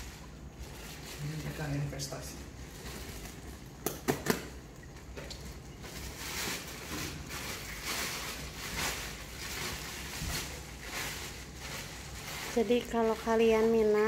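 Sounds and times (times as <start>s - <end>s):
plastic bags crinkling: 0.0s - 3.8s, 4.4s - 14.0s.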